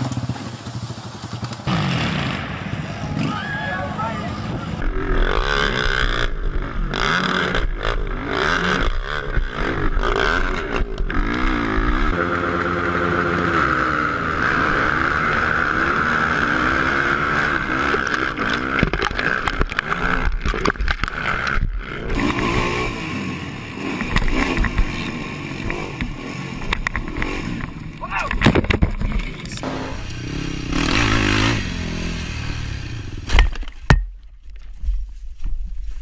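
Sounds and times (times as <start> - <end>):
quad engines running hard: 0.0 - 33.3.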